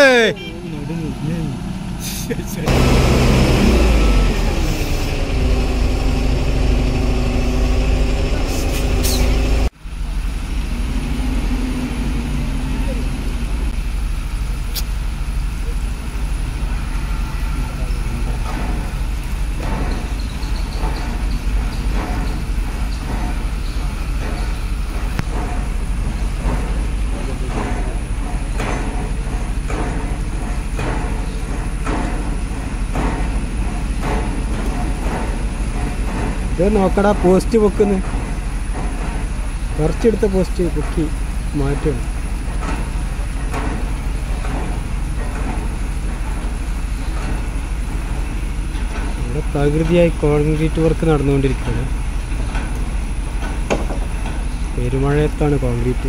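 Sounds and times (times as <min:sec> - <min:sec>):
diesel machinery rumbling: 0:00.0 - 0:56.0.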